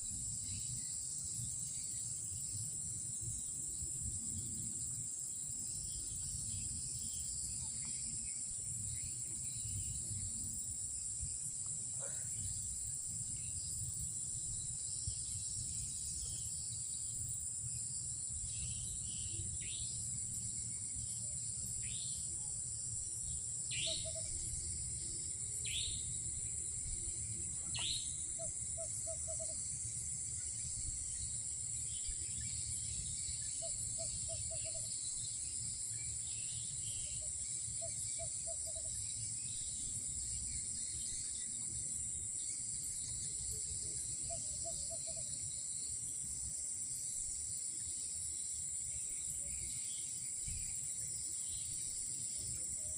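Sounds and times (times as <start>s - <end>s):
crickets droning: 0.0s - 52.9s.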